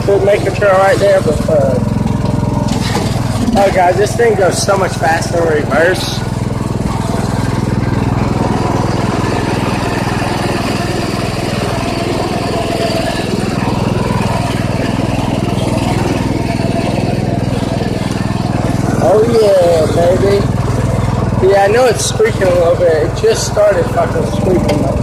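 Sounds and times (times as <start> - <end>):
riding lawn mower engine: 0.0 - 25.0.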